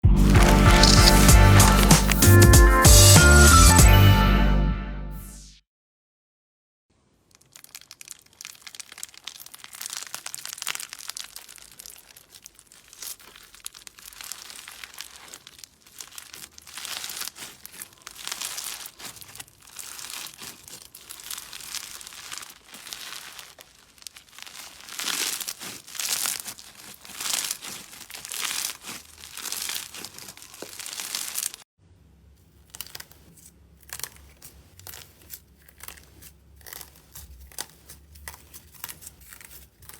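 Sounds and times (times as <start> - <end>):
slime crackling: 0.2 - 2.6, 7.1 - 31.7, 32.4 - 39.9.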